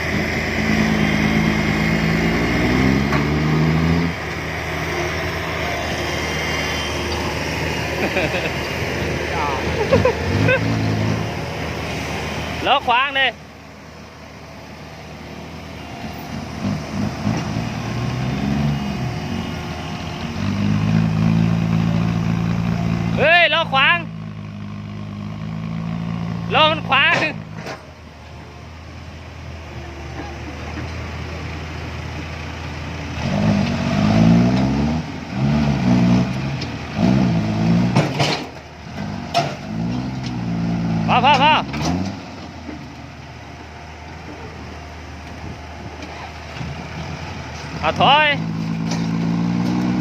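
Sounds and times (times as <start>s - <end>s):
diesel engine revving: 0.0s - 50.0s.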